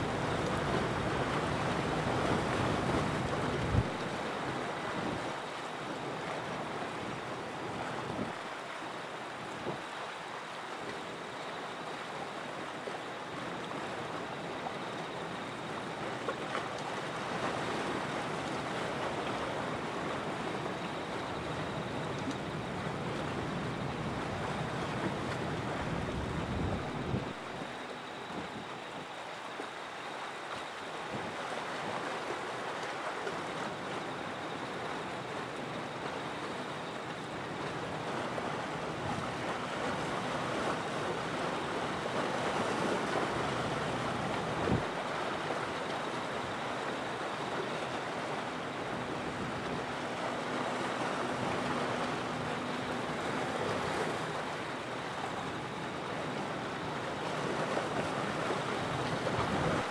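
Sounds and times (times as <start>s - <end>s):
waves washing on shore: 0.0s - 59.9s.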